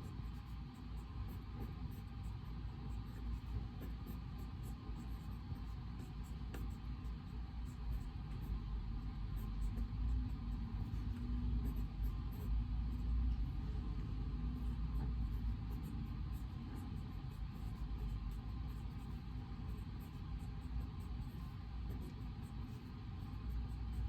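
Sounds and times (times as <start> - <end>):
low room rumble: 0.0 - 24.0
pen scratching on paper: 0.0 - 24.0.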